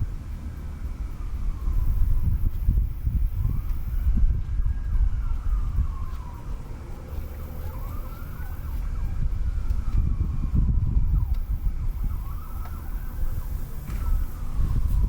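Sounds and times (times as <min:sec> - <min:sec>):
faint siren wailing: 0:00.0 - 0:15.0
low rumble on microphone: 0:00.0 - 0:15.0.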